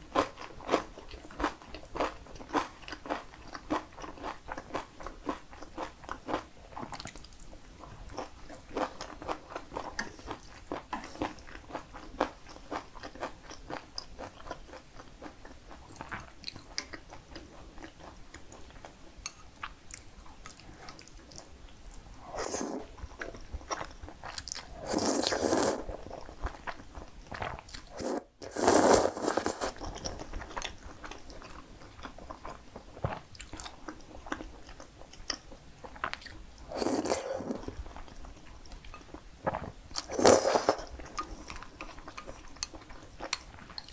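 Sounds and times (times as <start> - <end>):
eating pasta: 0.1 - 43.9
person chewing crunchy food: 0.1 - 43.9.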